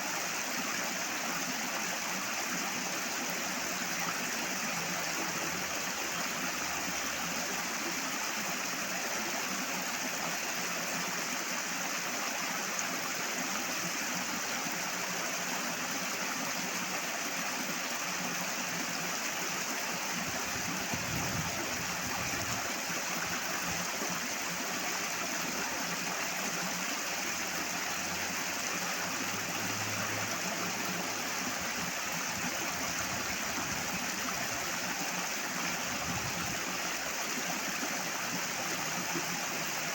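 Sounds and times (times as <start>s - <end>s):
water rushing and gurgling: 0.0s - 39.9s.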